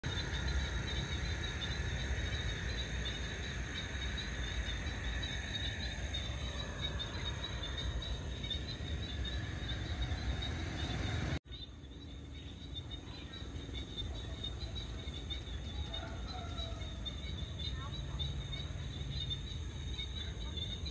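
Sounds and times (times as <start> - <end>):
high-pitched chirping chorus: 0.0 - 20.9
low steady rumble: 0.0 - 20.9.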